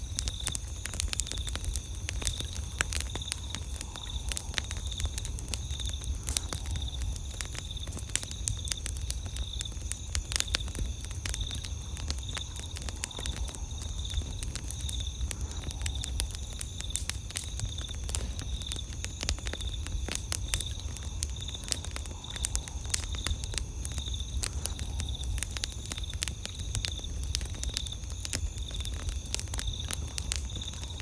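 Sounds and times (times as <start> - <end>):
campfire popping and snapping: 0.0 - 31.0
low fire rumble: 0.0 - 31.0
night insects trilling: 0.0 - 31.0.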